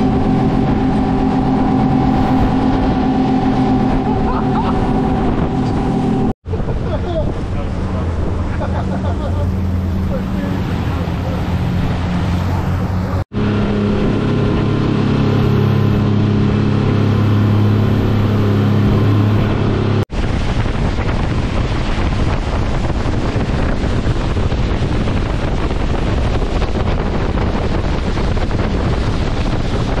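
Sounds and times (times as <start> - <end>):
boat engine humming: 0.0 - 30.0
rushing water: 0.0 - 30.0
wind buffeting microphone: 0.0 - 30.0.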